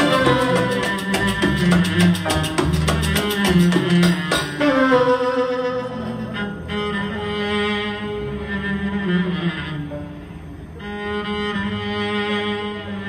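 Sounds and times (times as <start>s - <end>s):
cello bowed notes: 0.0s - 13.0s
string orchestra: 0.0s - 13.0s.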